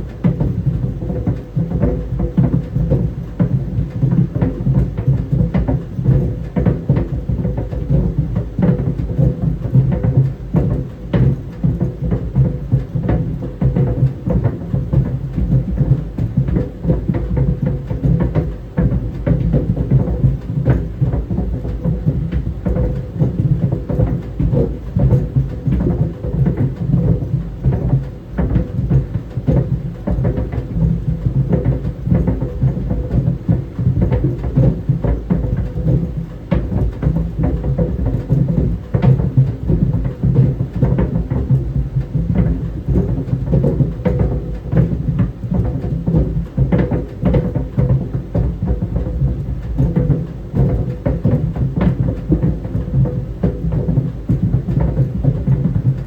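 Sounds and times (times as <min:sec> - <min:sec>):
clothes dryer rumble: 0:00.0 - 0:56.0
tennis balls thumping in dryer drum: 0:00.0 - 0:56.0.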